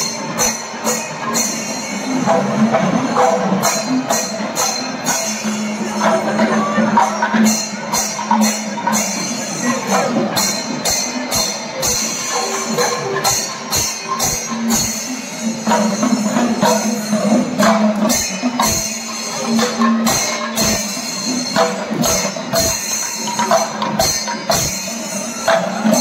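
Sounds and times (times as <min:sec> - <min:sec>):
drum strokes: 0:00.0 - 0:26.0
jingling cymbals: 0:00.0 - 0:26.0.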